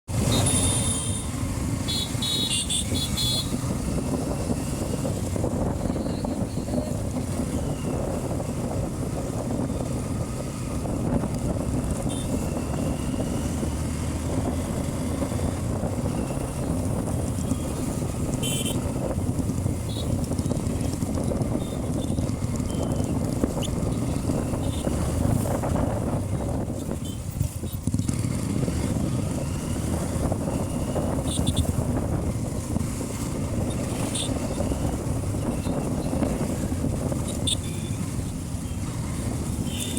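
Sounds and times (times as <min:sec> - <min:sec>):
motorcycle engine running: 0:00.1 - 0:39.9
wind and road noise: 0:00.1 - 0:39.9.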